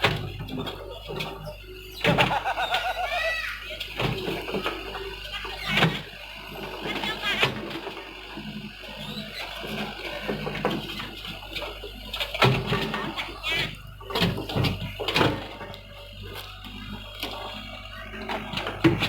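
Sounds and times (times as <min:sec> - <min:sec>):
excavator engine humming: 0:00.0 - 0:19.0.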